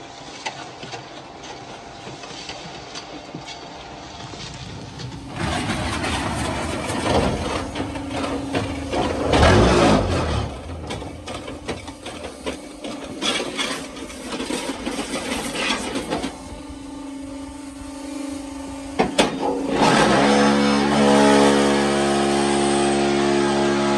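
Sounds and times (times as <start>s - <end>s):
heavy machine rumble: 0.0s - 23.9s
machine humming: 0.0s - 23.9s.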